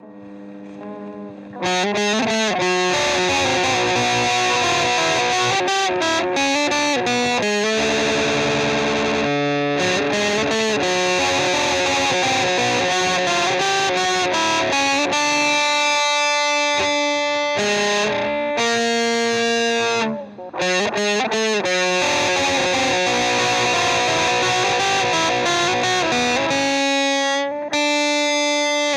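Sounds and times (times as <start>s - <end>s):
distorted electric guitar chords: 0.0s - 28.9s.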